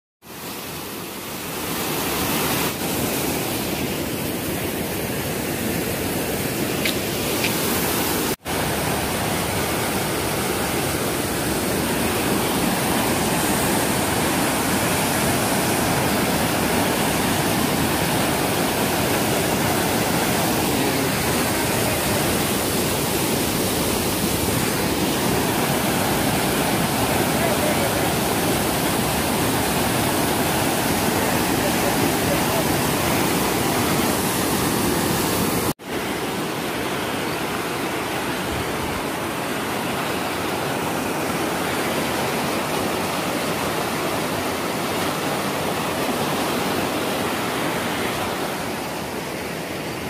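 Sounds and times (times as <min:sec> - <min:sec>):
floodwater rushing through weir: 0:00.2 - 0:50.0.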